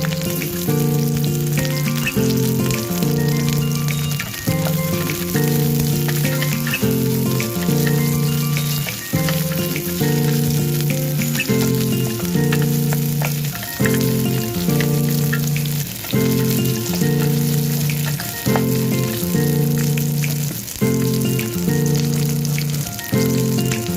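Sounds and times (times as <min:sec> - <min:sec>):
background music chords: 0:00.0 - 0:23.9
food frying in hot oil: 0:00.0 - 0:23.9.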